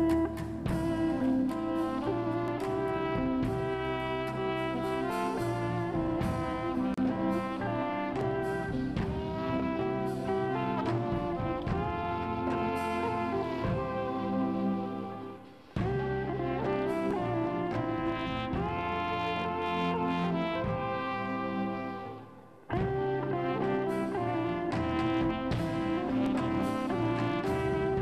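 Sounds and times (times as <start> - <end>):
drum kit and cymbals: 0.0 - 28.0
electric guitar: 0.0 - 28.0
trumpet melody: 0.0 - 28.0.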